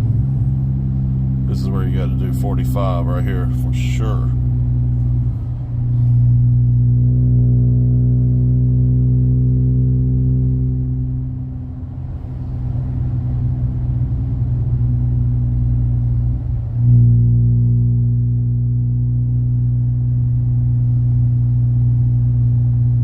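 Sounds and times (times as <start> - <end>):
car engine and exhaust droning: 0.0 - 23.0.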